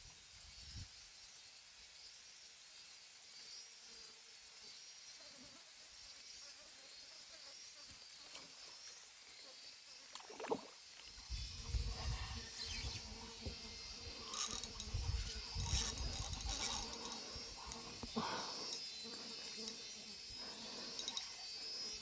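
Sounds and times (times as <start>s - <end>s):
high-pitched insects buzzing: 0.0s - 22.0s.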